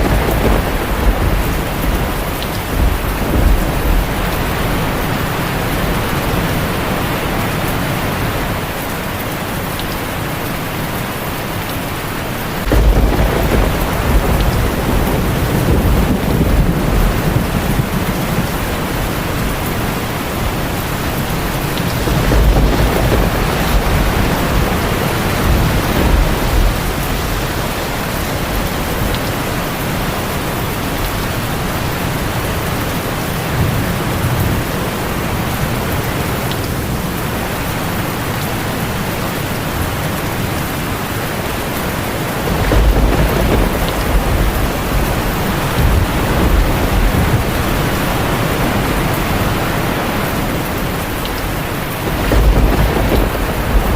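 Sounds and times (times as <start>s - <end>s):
thunder rumbling: 0.0s - 8.9s, 12.4s - 53.9s
heavy rain on a tin roof: 0.0s - 53.9s.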